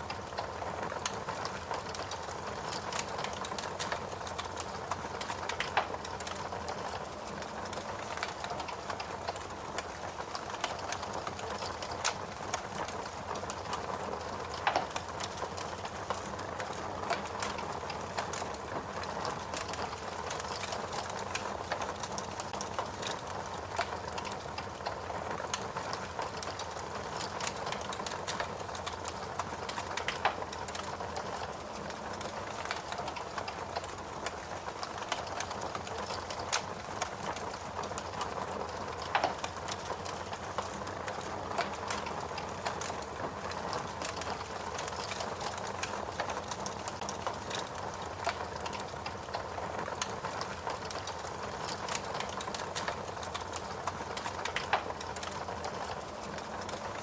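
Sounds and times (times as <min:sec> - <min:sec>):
fire crackling and popping: 0:00.0 - 0:57.0
loud fire snaps: 0:00.0 - 0:57.0.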